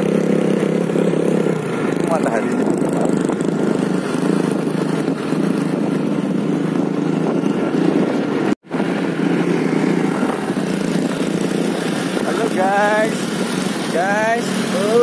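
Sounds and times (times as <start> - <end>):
motorcycle engine: 0.0 - 15.0
road noise: 0.0 - 15.0.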